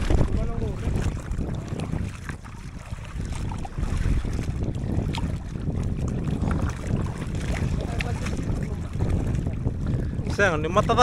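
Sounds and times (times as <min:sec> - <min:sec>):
small splashes: 0:00.0 - 0:09.6
water lapping against raft: 0:00.0 - 0:11.0
wind rumbling on microphone: 0:00.0 - 0:11.0.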